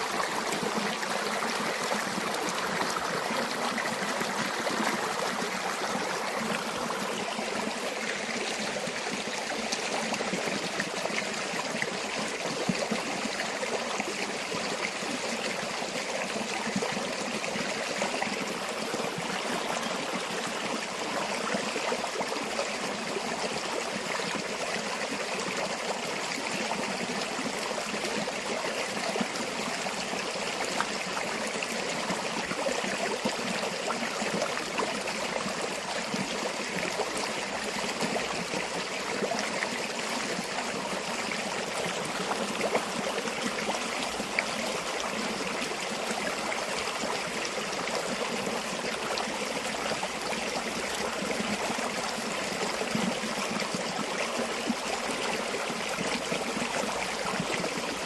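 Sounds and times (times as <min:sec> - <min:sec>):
stream rushing and babbling: 0:00.0 - 0:58.0.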